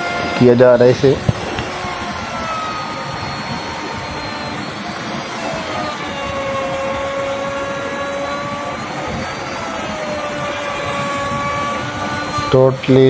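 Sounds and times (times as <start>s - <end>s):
router cutting into wood: 0.0s - 13.0s.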